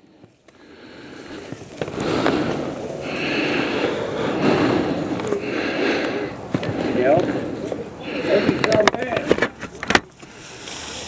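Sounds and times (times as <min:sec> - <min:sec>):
branch dragged over ground: 0:00.8 - 0:11.0.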